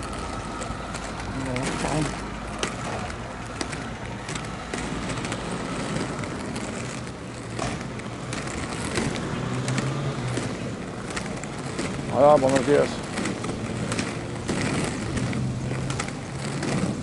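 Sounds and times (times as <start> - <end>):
roller skate wheels rumbling: 0.0 - 17.0.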